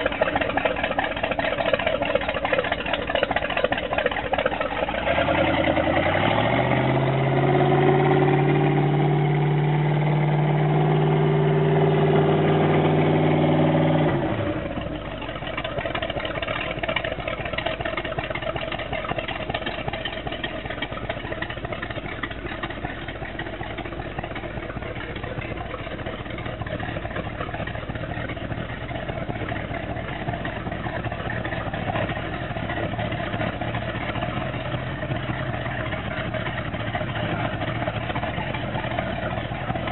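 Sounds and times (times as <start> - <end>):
boat engine revving and idling: 0.0 - 39.9.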